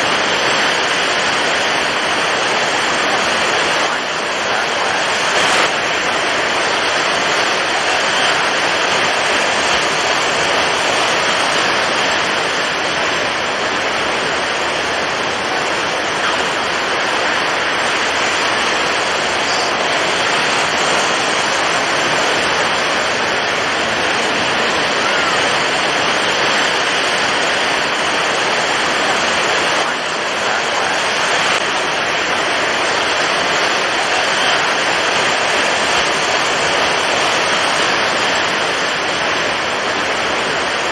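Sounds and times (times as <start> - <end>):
heavy waves: 0.0 - 40.9
strong wind: 0.0 - 40.9.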